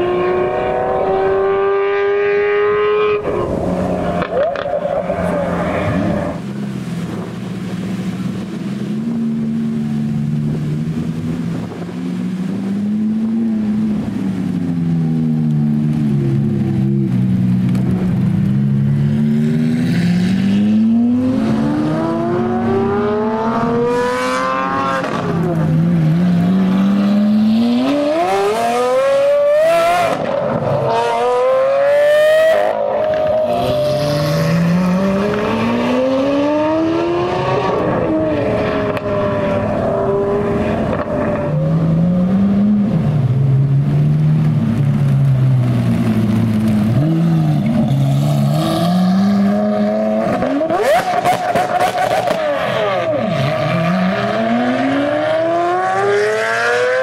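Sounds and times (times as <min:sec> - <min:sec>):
sports car engines accelerating: 0:00.0 - 0:57.0.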